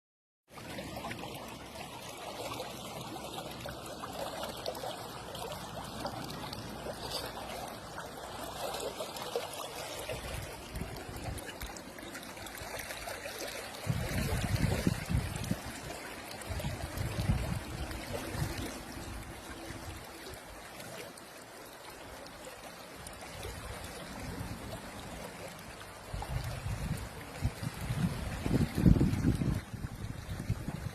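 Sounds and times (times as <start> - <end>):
water trickling: 0.5 - 30.9.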